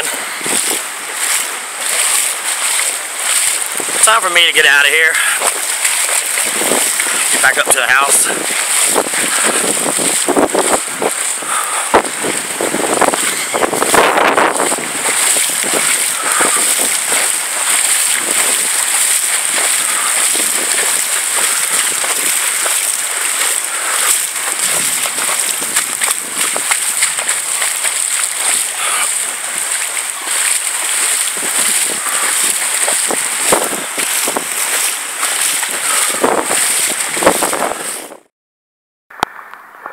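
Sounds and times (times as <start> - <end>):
rain hiss: 0.0 - 37.3
wind gusting through pines: 0.0 - 38.2
water sloshing from wading: 0.0 - 38.3
wind buffeting microphone: 0.0 - 38.3.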